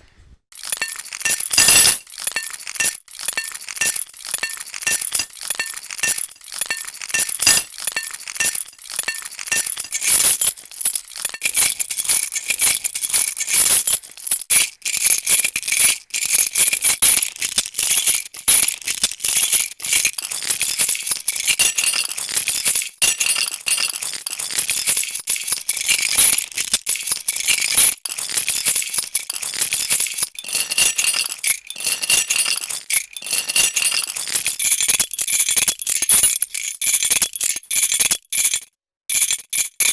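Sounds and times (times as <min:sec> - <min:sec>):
metal keys jangling: 0:00.5 - 0:39.9.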